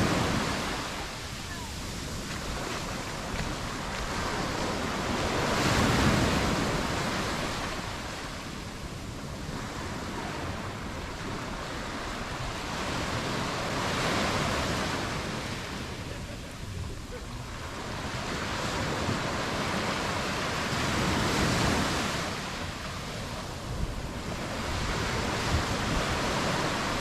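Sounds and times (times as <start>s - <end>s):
sea waves breaking on beach: 0.0s - 27.0s.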